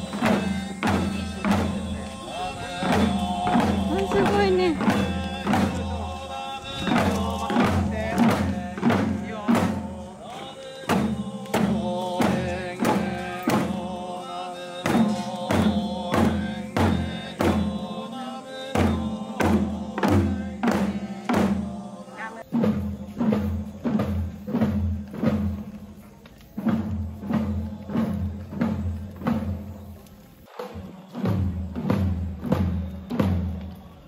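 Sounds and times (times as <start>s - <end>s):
drum beating steadily: 0.0s - 34.0s
voices chanting: 0.0s - 34.0s.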